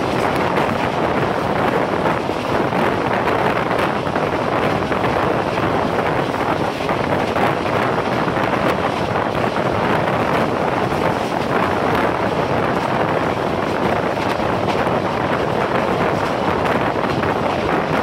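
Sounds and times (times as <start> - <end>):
train wheels on track: 0.0 - 18.0
wind buffeting microphone: 0.0 - 18.0.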